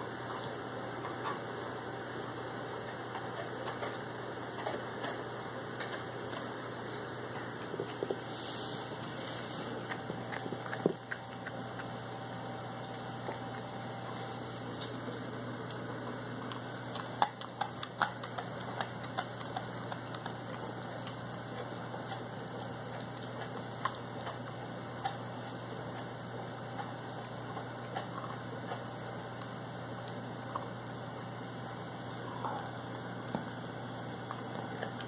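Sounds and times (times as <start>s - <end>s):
dog gnawing bone: 2.8s - 35.0s.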